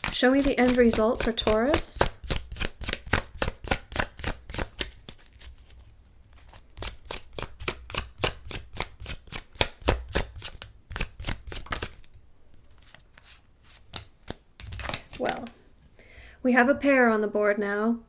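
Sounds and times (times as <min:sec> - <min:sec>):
cards being shuffled by hand: 0:00.0 - 0:15.6.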